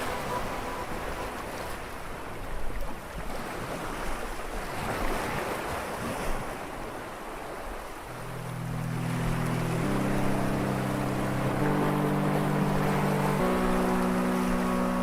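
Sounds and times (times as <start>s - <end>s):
sea waves washing and splashing: 0.0s - 15.0s.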